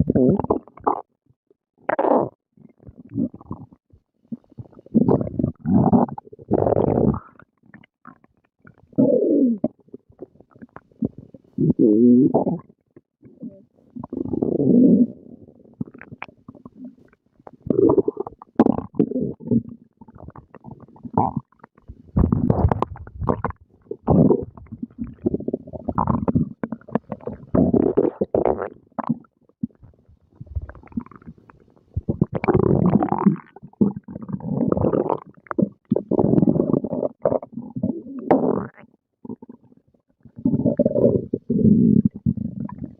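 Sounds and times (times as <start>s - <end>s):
stomach growling and gurgling: 0.0s - 42.9s.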